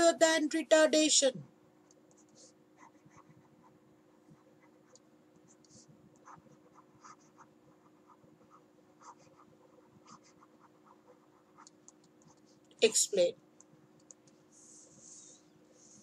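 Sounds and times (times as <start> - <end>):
faint steady hum: 0.0 - 16.0
stylus tapping and scratching on tablet: 1.8 - 16.0.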